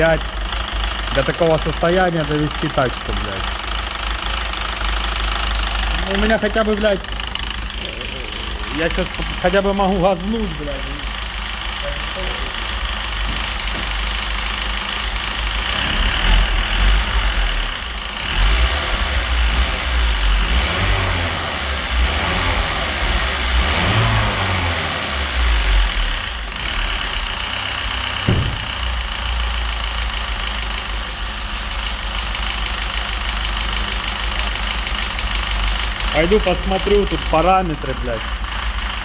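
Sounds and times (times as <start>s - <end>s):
rough engine knocking and revving: 0.0s - 39.0s.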